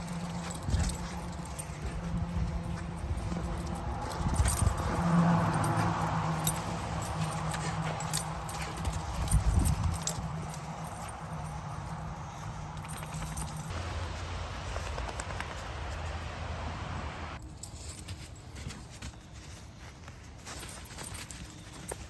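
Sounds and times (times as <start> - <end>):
collar tags jingling: 0.0 - 16.2, 17.4 - 22.0.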